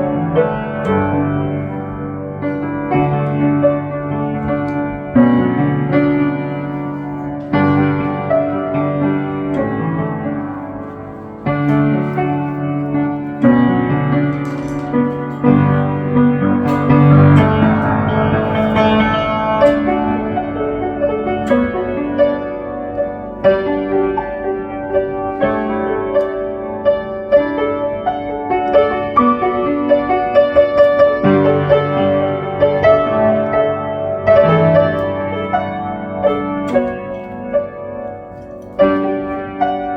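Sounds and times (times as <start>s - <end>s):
piano chords: 0.0s - 39.9s.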